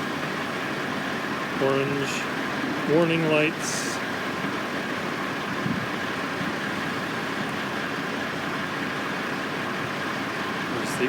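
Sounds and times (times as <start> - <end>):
construction machinery droning: 0.0 - 11.0.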